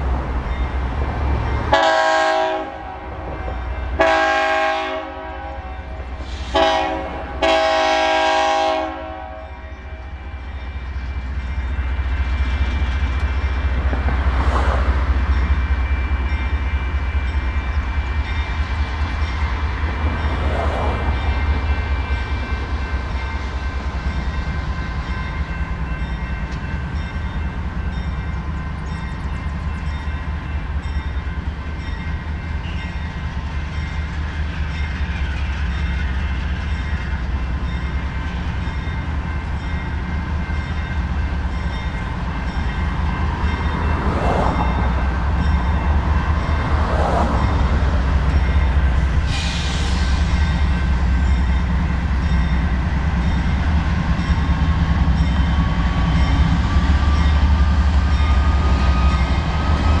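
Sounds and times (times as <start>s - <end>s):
diesel locomotive engine rumble: 0.0s - 60.0s.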